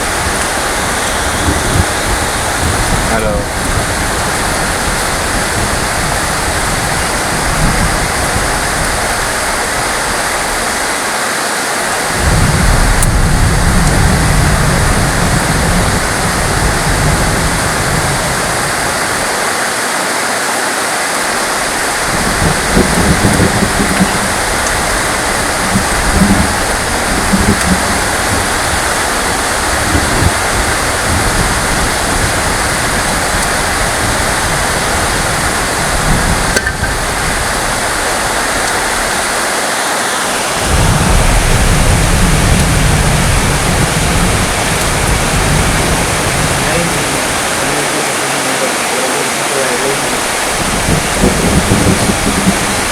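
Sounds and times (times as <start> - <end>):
thunder rumbling: 0.0 - 11.0, 12.1 - 19.4, 21.3 - 39.5, 40.4 - 52.9
heavy rain falling: 0.0 - 52.9.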